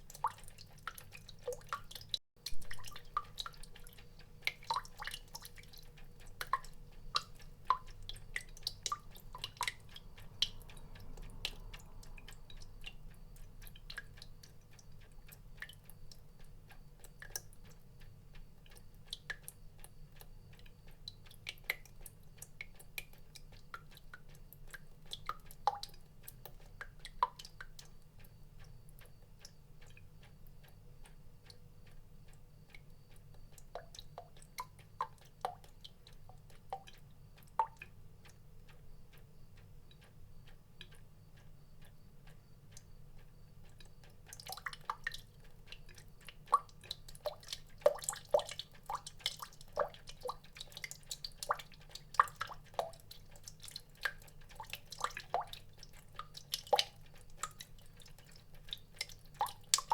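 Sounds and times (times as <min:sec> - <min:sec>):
water drops dripping: 0:00.0 - 0:59.9.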